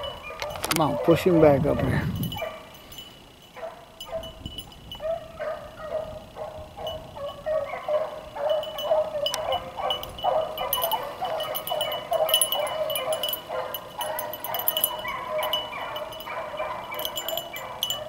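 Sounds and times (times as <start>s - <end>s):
beagles baying: 0.0s - 18.0s.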